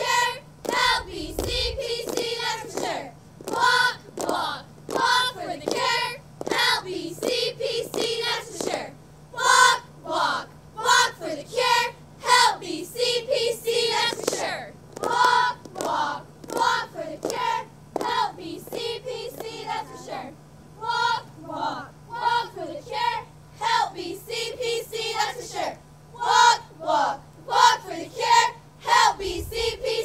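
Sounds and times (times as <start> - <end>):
girls chanting a cheer: 0.0 - 30.0.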